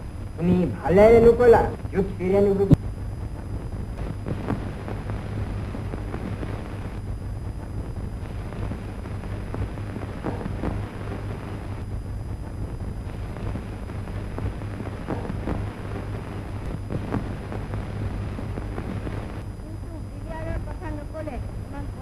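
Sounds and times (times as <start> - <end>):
crackles and pops: 0.0 - 22.0
low hum: 0.0 - 22.0.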